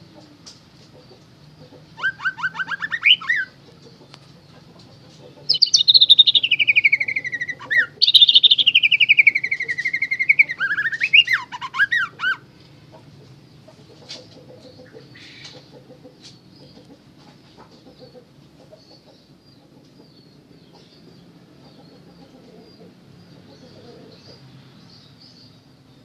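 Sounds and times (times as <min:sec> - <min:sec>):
birds chirping high: 0:00.0 - 0:26.0.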